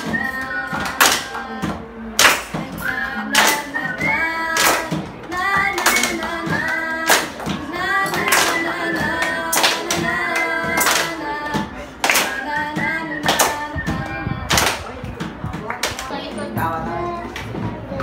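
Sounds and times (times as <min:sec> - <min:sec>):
teenagers singing together: 0:00.0 - 0:18.0.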